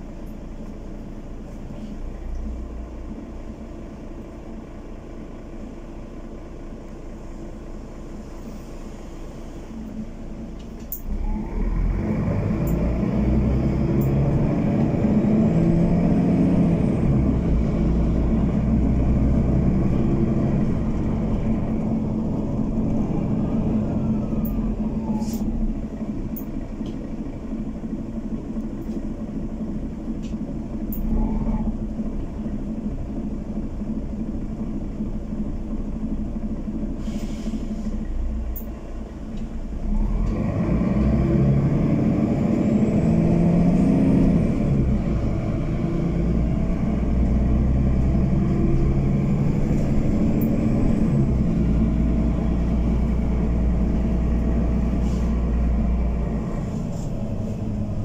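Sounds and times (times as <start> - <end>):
bus engine rumbling: 0.0 - 58.0
rattles and clicks in bus cabin: 0.0 - 58.0.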